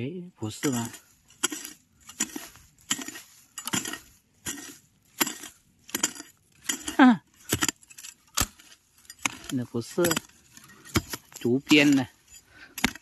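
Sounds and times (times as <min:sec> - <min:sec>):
hoe chopping stony soil: 0:00.4 - 0:13.0.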